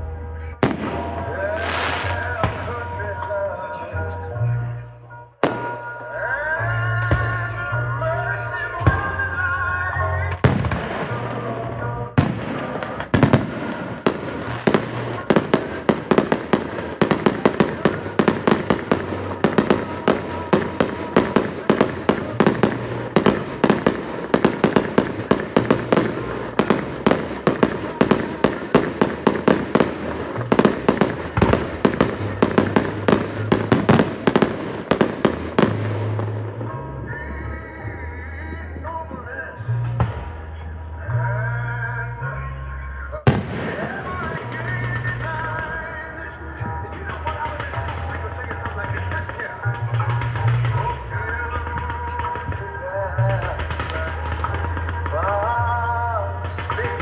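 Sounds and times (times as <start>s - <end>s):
fireworks bangs and crackles: 0.6s - 3.4s, 5.4s - 7.6s, 10.3s - 37.6s, 43.3s - 57.0s.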